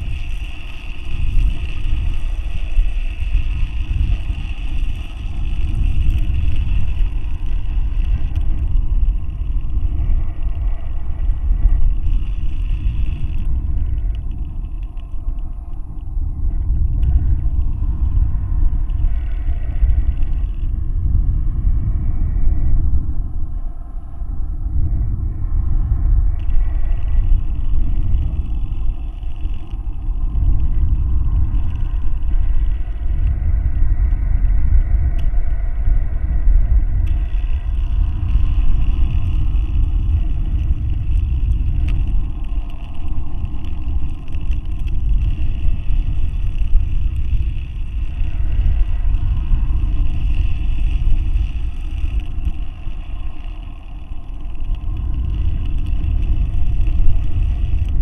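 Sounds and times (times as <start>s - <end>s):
faint high whine: 0.0s - 58.0s
wind buffeting microphone: 0.0s - 58.0s.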